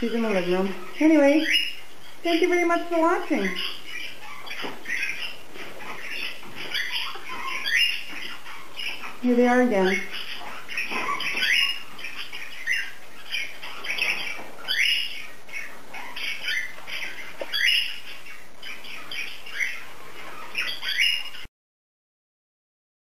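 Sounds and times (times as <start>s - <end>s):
birds chirping and chattering: 0.0s - 21.5s
parrot squawks: 0.0s - 21.5s.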